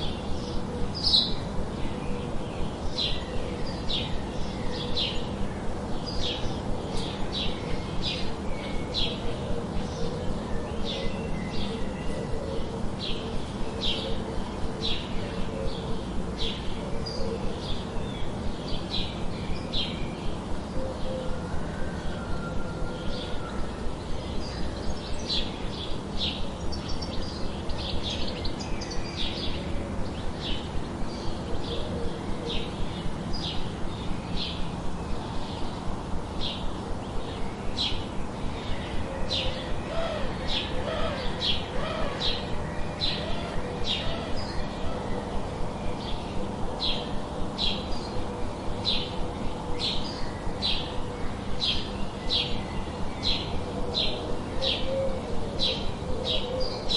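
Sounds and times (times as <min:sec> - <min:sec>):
birds chirping: 0:00.0 - 0:56.9
steady background hiss: 0:00.0 - 0:56.9.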